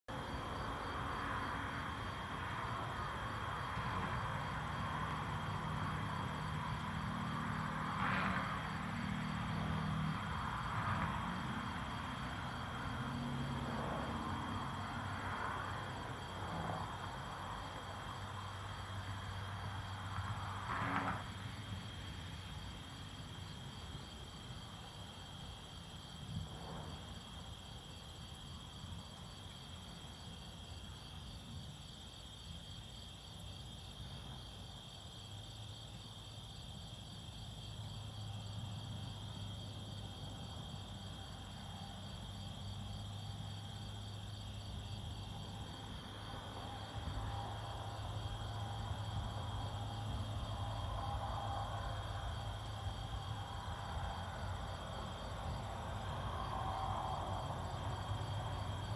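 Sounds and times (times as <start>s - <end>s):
crickets trilling: 0.1s - 58.9s
pulsing cricket chirp: 0.1s - 58.9s.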